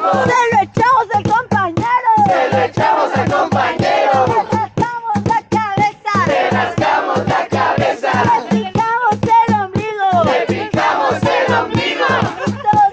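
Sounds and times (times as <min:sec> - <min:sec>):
group singing and calling out: 0:00.0 - 0:12.9
steady low beat: 0:00.0 - 0:12.9.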